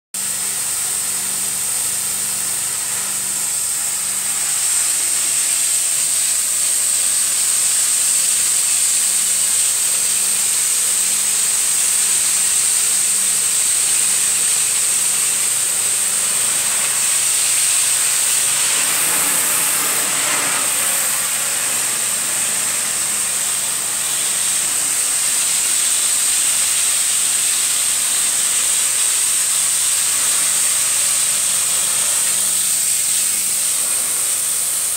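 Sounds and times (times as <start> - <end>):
vacuum wand hissing: 0.2 - 34.9.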